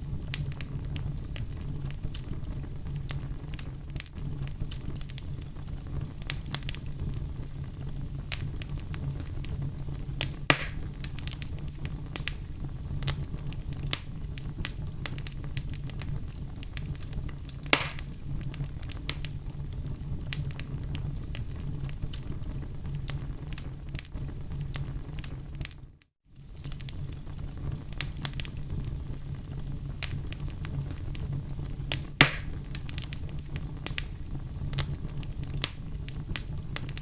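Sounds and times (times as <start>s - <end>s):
loud fire pops: 0.0s - 25.8s, 26.4s - 37.0s
wood fire crackling: 0.0s - 37.0s.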